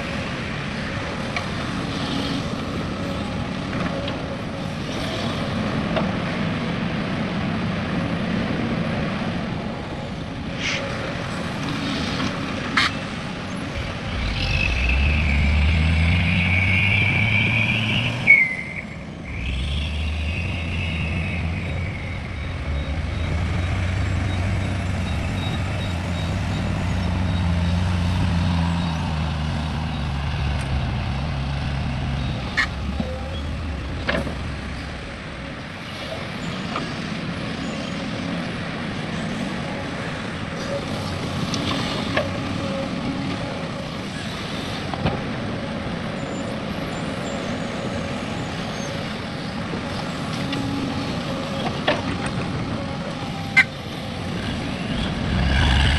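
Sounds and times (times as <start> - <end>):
heavy diesel engines working: 0.0 - 55.9.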